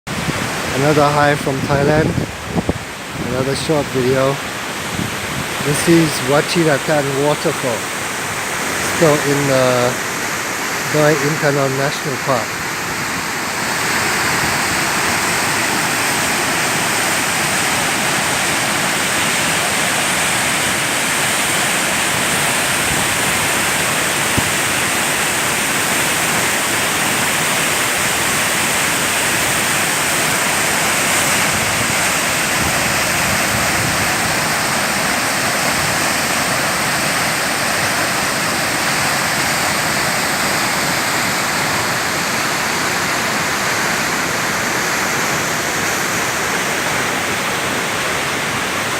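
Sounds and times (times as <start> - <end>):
large waterfall rushing: 0.1 - 48.9.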